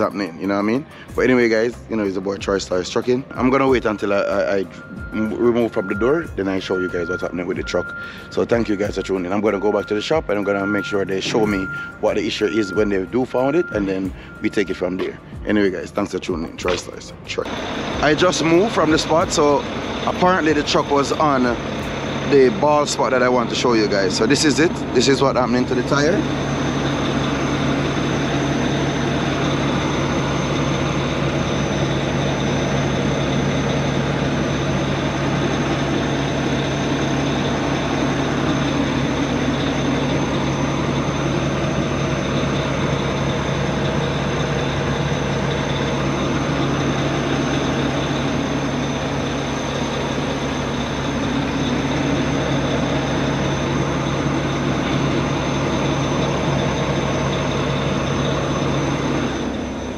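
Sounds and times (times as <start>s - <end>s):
diesel truck engine hum: 0.0s - 59.9s
tires rolling: 0.0s - 59.9s.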